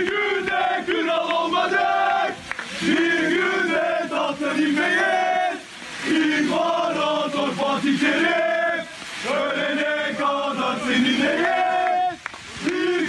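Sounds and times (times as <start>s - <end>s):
crowd of men chanting: 0.0s - 13.0s.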